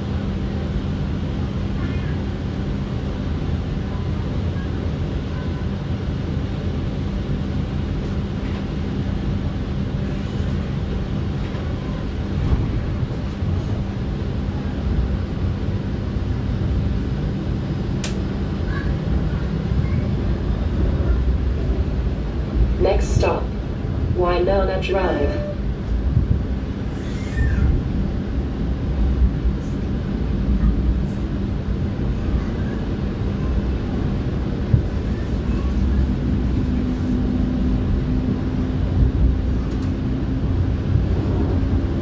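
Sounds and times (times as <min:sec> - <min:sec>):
streetcar rumble: 0:00.0 - 0:42.0.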